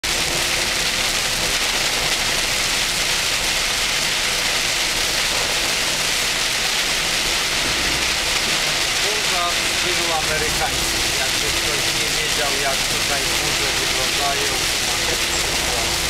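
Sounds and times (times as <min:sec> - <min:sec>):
rain on vehicle roof: 0:00.0 - 0:16.0.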